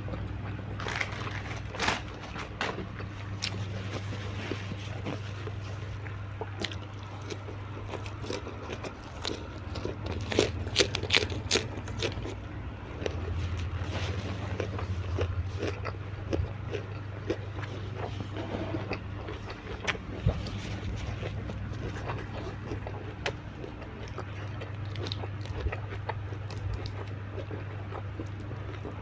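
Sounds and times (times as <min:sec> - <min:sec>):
steady low hum: 0:00.0 - 0:29.0
crunchy bites and chewing: 0:00.1 - 0:29.0.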